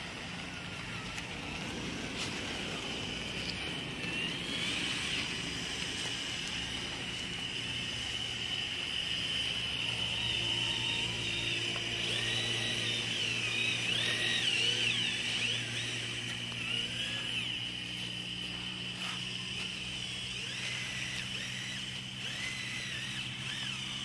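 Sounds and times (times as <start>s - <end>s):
blade pushing soil: 0.0s - 24.0s
small electric motor whining: 0.0s - 24.0s.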